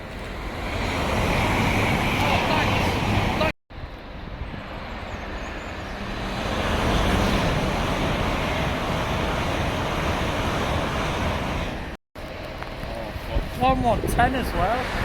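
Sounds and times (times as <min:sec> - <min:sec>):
passing train wheel and rail noise: 0:00.0 - 0:15.0.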